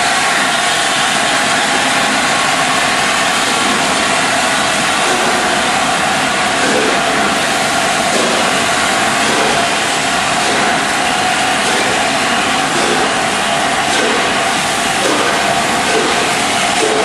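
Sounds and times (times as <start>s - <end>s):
steam locomotive rushing steam: 0.0s - 17.0s.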